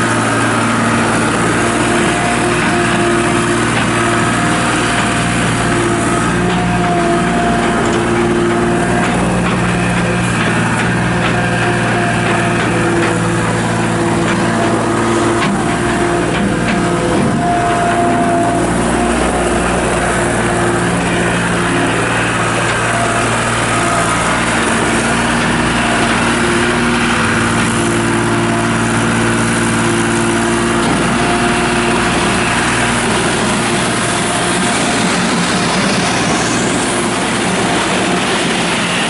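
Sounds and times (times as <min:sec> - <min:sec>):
loader diesel engine running: 0:00.0 - 0:39.0.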